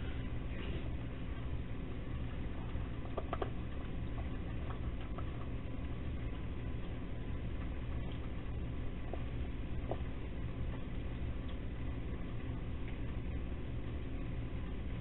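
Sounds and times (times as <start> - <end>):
low background hum: 0.0 - 15.0
animals crunching dry food: 0.6 - 13.2.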